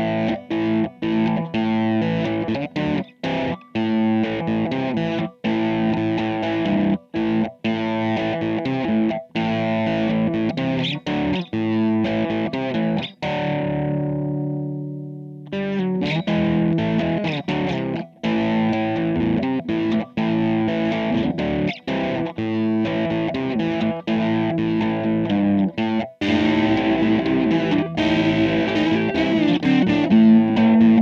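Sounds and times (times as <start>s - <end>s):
distorted electric guitar riff: 0.0s - 31.0s.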